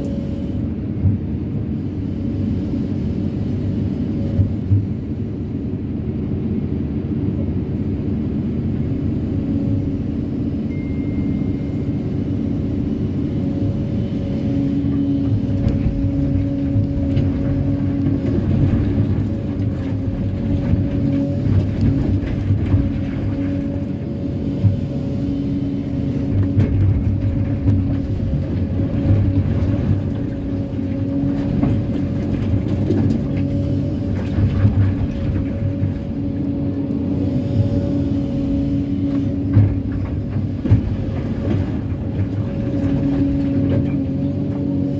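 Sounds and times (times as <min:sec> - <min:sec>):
excavator engine and hydraulics: 0:00.0 - 0:44.9.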